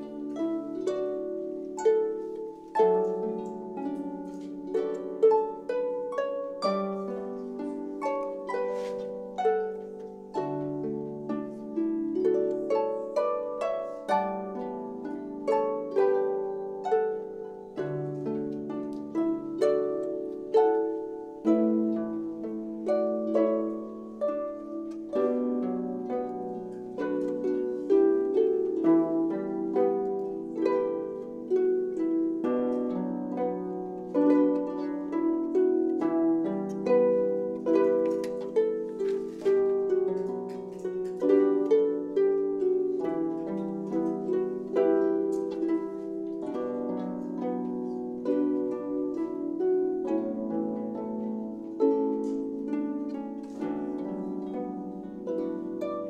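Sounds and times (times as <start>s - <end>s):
harps playing: 0.0s - 56.0s.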